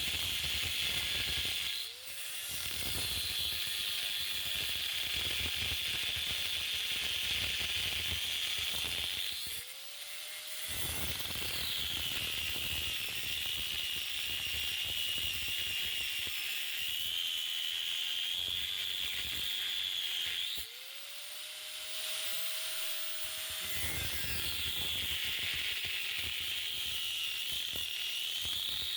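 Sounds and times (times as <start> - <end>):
angle grinder cutting steel: 0.0 - 28.9.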